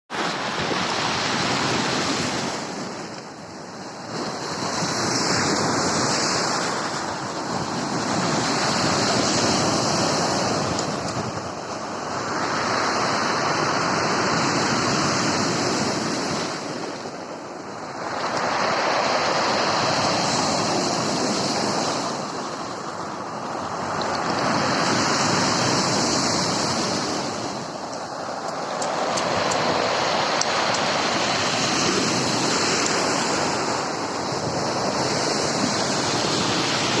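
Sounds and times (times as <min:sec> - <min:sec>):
sea waves breaking on shore: 0:00.1 - 0:37.0.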